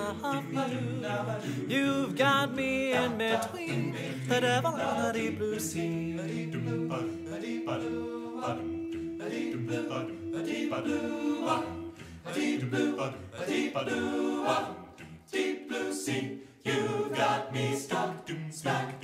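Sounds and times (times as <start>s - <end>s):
a cappella group singing in harmony: 0.0s - 19.0s.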